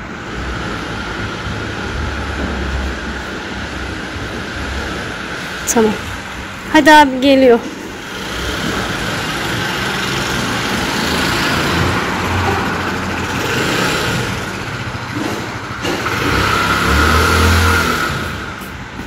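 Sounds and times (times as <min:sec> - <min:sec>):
low hum of vehicle engines: 0:00.0 - 0:19.0
traffic rushing hiss: 0:00.0 - 0:19.0.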